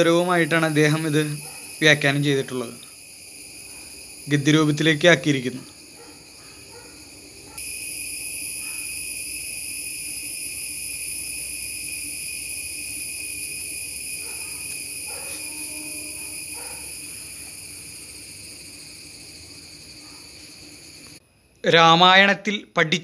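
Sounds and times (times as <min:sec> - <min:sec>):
high-pitched insect trill: 0:00.0 - 0:22.3.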